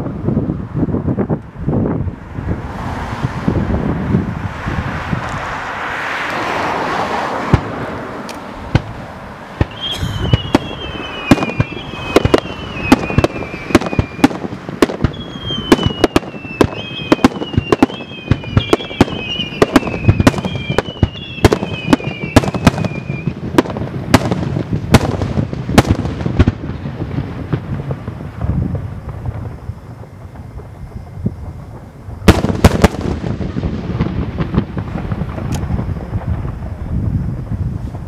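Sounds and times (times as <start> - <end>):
whistling fireworks: 0.0 - 8.0, 8.6 - 38.0
fireworks bangs: 1.1 - 38.0.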